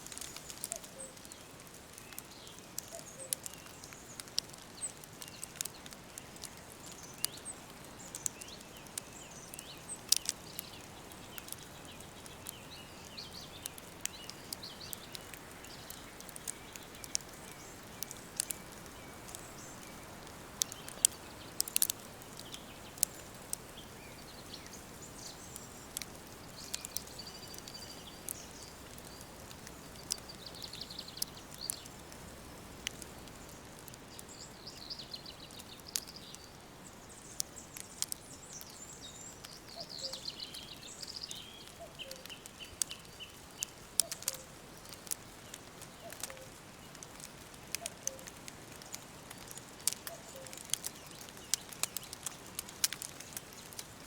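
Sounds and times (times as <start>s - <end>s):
sharp crackling clicks: 0.0s - 54.0s
steady hiss: 0.0s - 54.0s
birds chirping: 0.1s - 53.8s.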